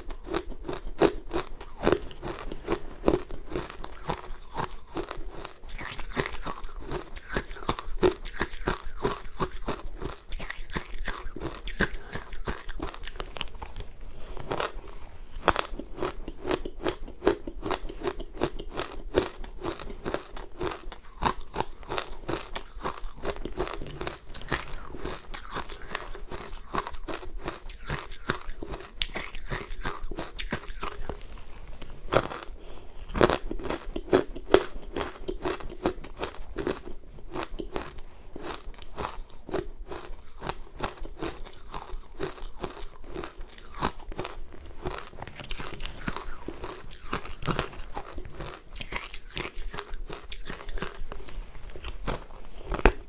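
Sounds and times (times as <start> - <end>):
crunching and chewing ice: 0.0 - 53.0.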